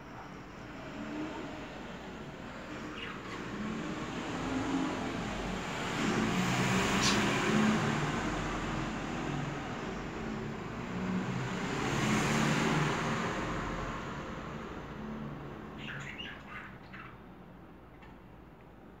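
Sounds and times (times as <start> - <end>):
vehicles passing: 0.0 - 18.1
road traffic: 0.0 - 19.0.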